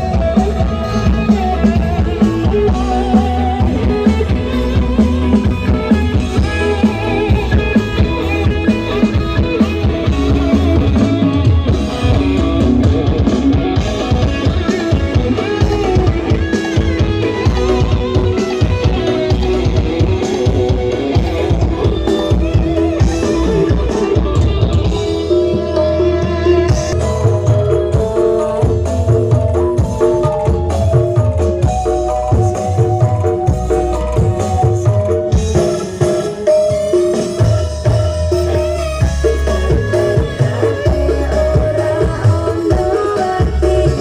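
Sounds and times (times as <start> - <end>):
loud music with drums and bass: 0.0 - 44.0.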